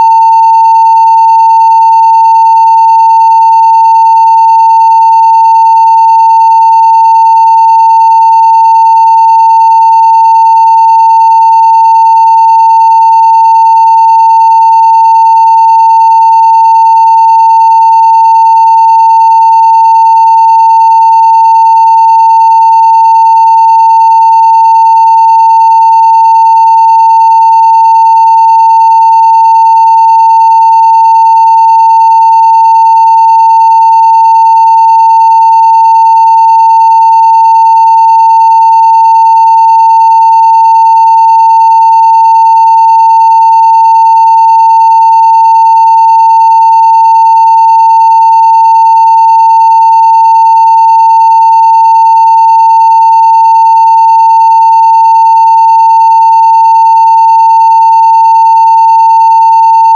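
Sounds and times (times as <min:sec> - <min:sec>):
sine wave test tone: 0:00.0 - 0:59.9.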